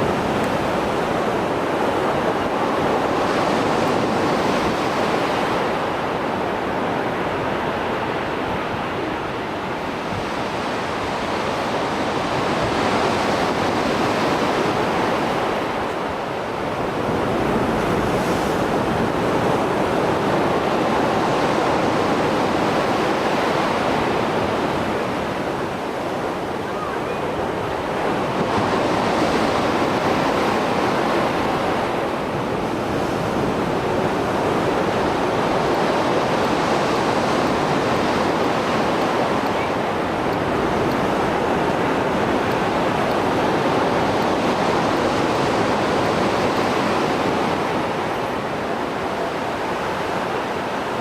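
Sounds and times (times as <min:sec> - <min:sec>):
waves breaking on shore: 0:00.0 - 0:51.0.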